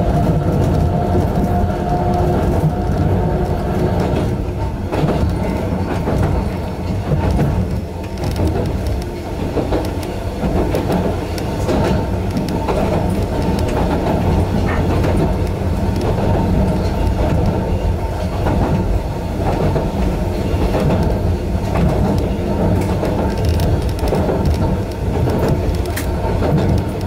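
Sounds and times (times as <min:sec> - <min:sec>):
railcar rumble: 0:00.0 - 0:27.0
wheels clicking on rails: 0:00.0 - 0:27.0.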